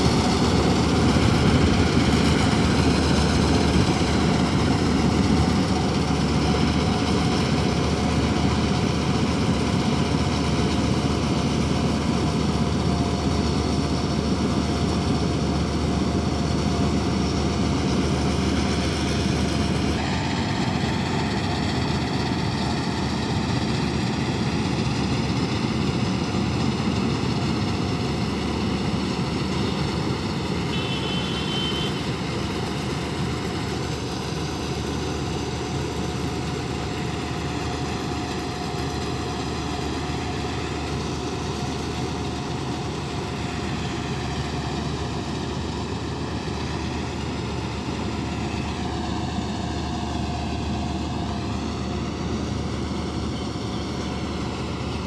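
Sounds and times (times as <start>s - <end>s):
combine harvester engine drone: 0.0s - 55.0s
machinery whining: 0.0s - 55.0s.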